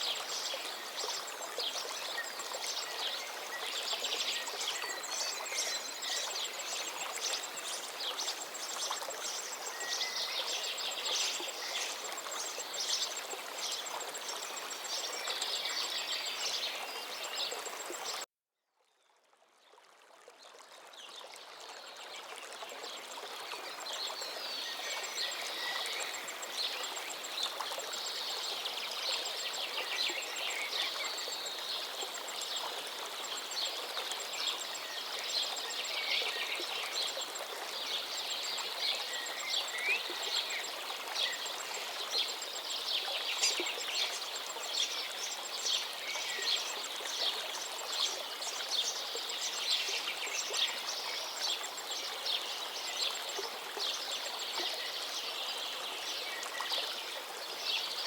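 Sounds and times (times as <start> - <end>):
songbirds singing: 0.0 - 18.2, 23.6 - 58.0.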